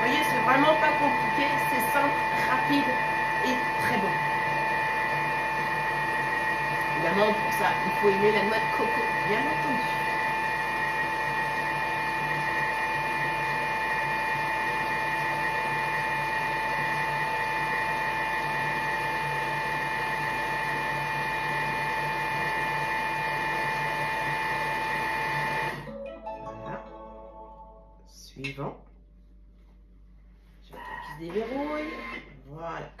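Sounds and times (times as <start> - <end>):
food processor motor whining: 0.0 - 25.9, 30.7 - 32.4.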